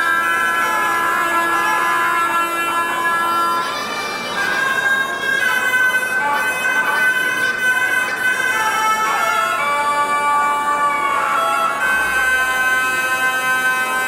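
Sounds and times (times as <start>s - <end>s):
high folk melody: 0.0s - 14.0s.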